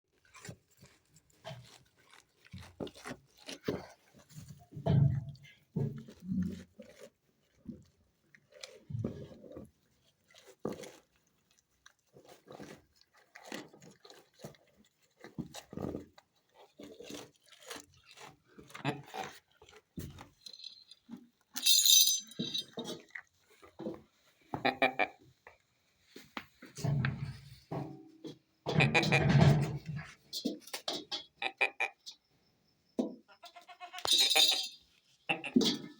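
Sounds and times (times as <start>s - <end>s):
goats crunching feed: 0.1s - 21.7s, 22.6s - 31.2s.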